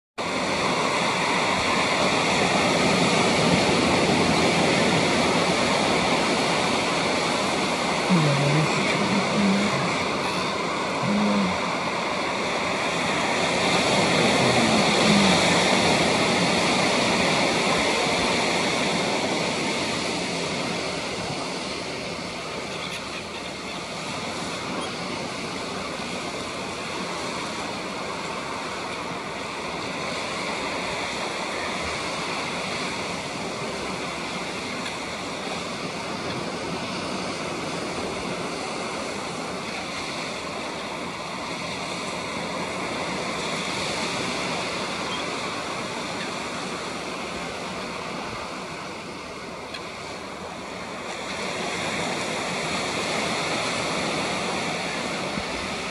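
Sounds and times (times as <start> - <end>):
small waves on pebbly shore: 0.2 - 55.9.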